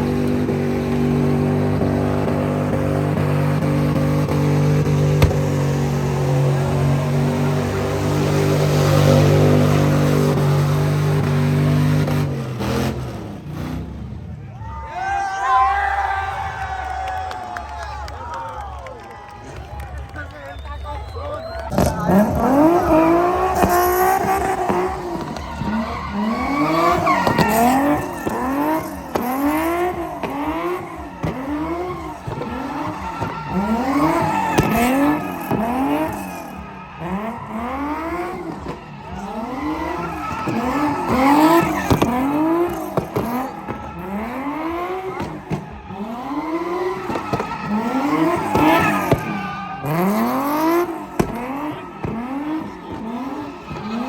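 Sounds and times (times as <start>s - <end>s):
tires squealing: 0.0s - 18.4s, 19.6s - 54.0s.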